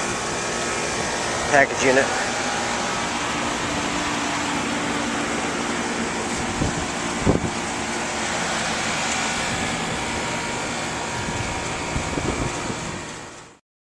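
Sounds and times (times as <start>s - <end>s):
air conditioning units running: 0.0s - 13.6s.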